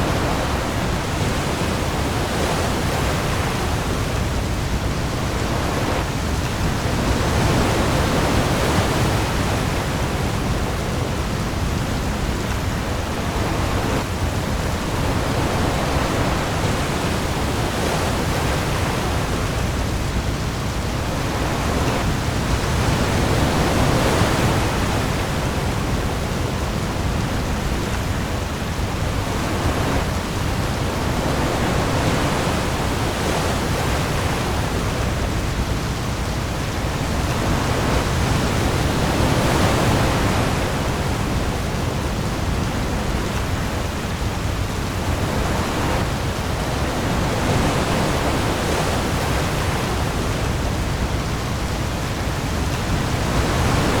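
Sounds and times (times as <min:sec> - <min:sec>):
heavy rain on sea: 0:00.0 - 0:54.0
sea waves: 0:00.0 - 0:54.0.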